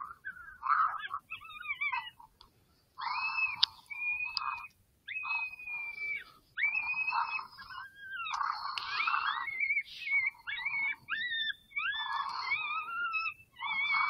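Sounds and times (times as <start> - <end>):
high wavering whining calls: 0.0 - 2.3, 3.0 - 14.0.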